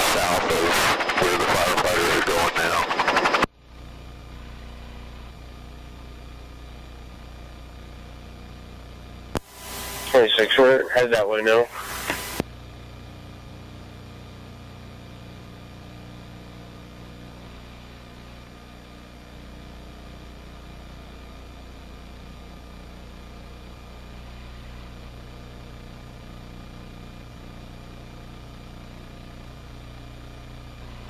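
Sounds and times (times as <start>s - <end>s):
faint steady whine: 0.0s - 31.0s
helicopter engine and rotor drone: 0.0s - 31.0s.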